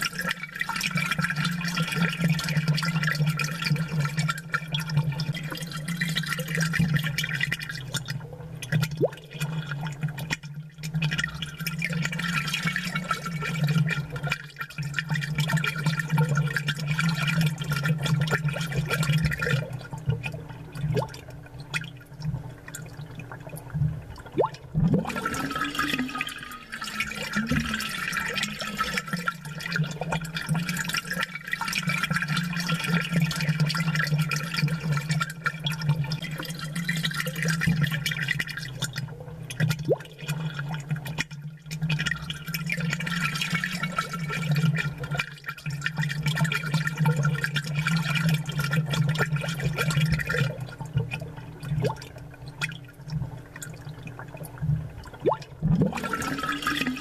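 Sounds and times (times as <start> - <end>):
aquarium water bubbling: 0.0 - 57.0
low steady hum: 0.0 - 57.0.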